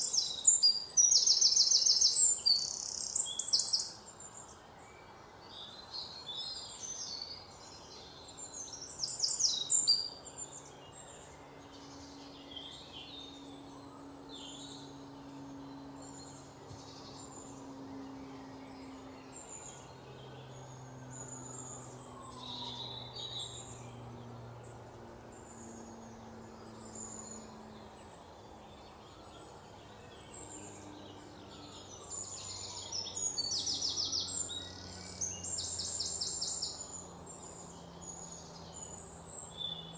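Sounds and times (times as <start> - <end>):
faint low hum: 0.0 - 39.9
small birds chirping: 0.0 - 39.9.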